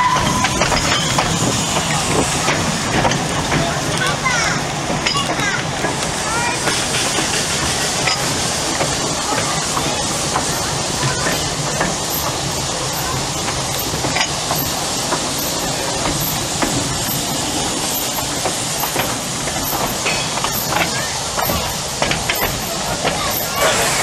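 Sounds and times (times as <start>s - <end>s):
train rushing noise: 0.0s - 24.0s.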